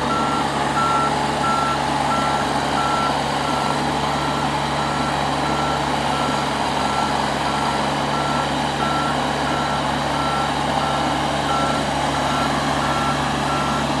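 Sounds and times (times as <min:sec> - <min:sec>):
backup alarm beeping: 0:00.0 - 0:14.0
skid steer engine drone: 0:00.0 - 0:14.0.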